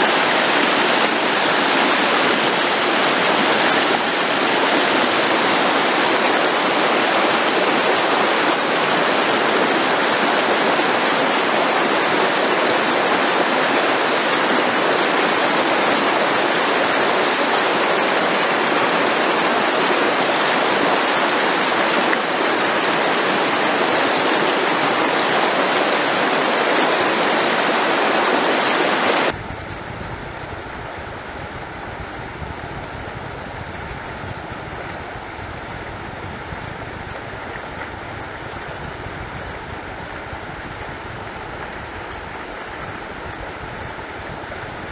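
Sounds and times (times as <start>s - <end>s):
stream rushing over stones: 0.0s - 29.4s, 30.0s - 44.9s.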